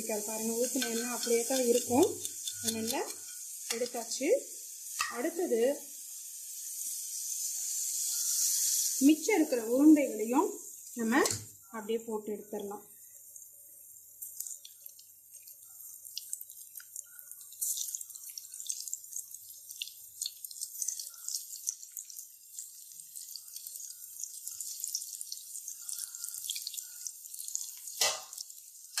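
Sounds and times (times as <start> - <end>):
balls deep-frying in hot oil: 0.0 - 29.0.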